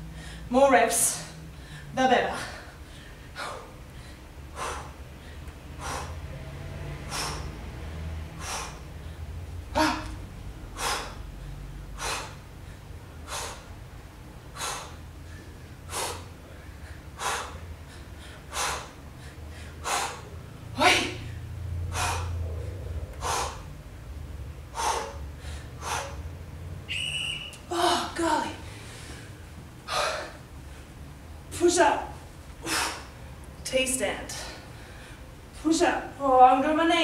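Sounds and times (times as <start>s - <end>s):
woman breathing hard: 0.0s - 0.5s, 1.2s - 26.7s, 27.6s - 31.1s, 32.6s - 33.4s, 34.3s - 35.4s.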